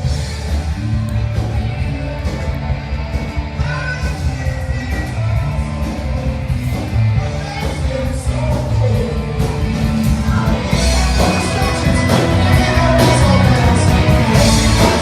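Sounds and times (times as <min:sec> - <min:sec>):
live band playing amplified music: 0:00.0 - 0:15.0
person singing: 0:01.3 - 0:15.0.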